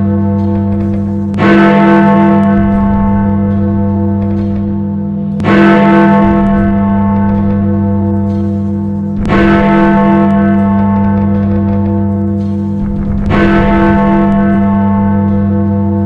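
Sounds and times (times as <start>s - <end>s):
large bell tolling: 0.0s - 16.0s.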